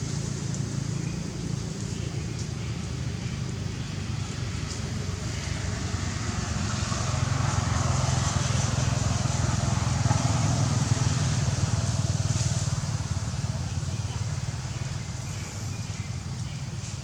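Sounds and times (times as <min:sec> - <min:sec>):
engine running with pulsing rumble: 0:00.0 - 0:17.0.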